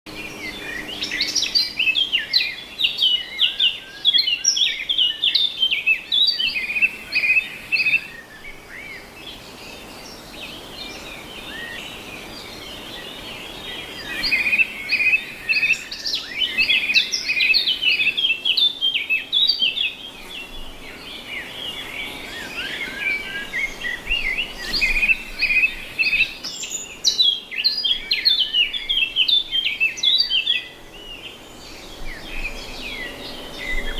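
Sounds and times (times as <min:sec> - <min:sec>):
songbirds chirping and singing: 0:00.1 - 0:33.9.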